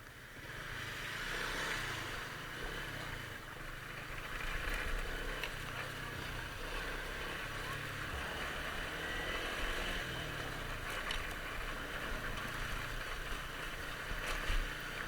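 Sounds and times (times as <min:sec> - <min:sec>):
motorcycle engine hum: 0:00.0 - 0:15.0
road and wind noise: 0:00.0 - 0:15.0.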